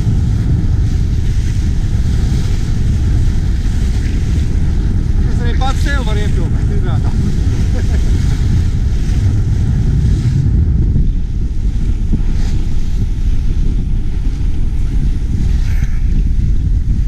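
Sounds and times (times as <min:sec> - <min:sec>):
water hissing along hull: 0:00.0 - 0:17.0
wind buffeting microphone: 0:00.0 - 0:17.0.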